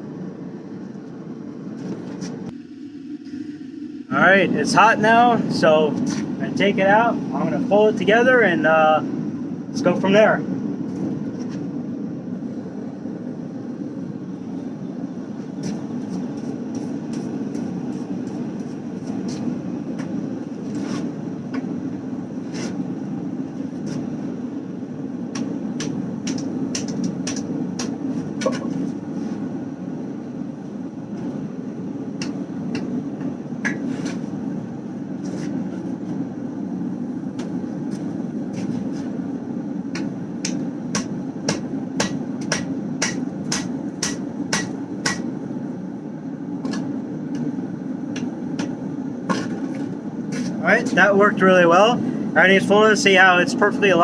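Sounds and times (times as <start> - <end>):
forge roaring: 0.0 - 53.3.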